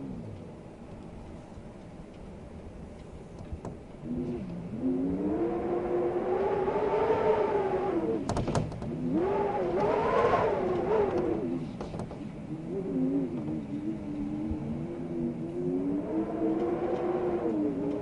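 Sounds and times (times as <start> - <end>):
wind howling: 0.0 - 18.0.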